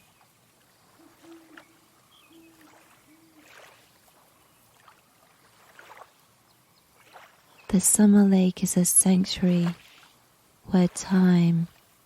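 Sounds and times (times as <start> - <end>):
small splashes: 0.0 - 7.7, 9.4 - 12.0
water gently lapping: 0.0 - 12.0.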